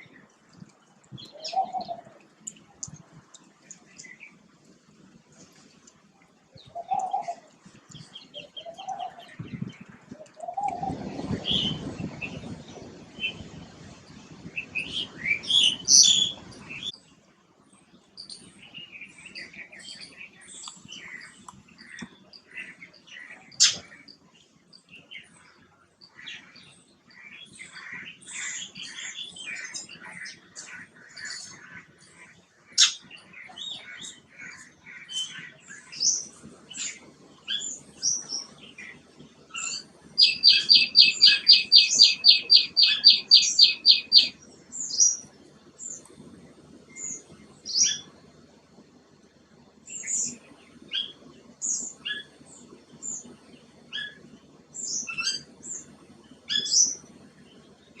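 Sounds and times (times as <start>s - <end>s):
small birds chirping: 0.0s - 13.8s, 14.4s - 58.0s.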